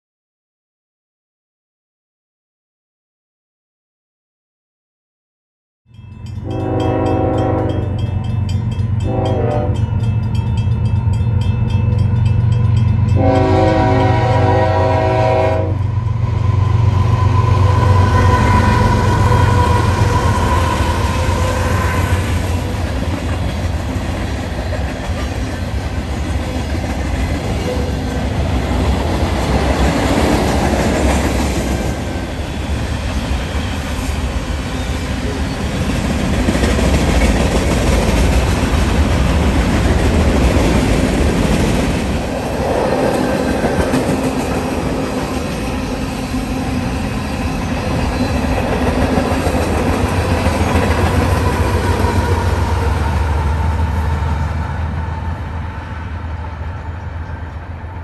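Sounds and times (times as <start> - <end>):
freight train wheels rumbling: 6.2 - 58.0.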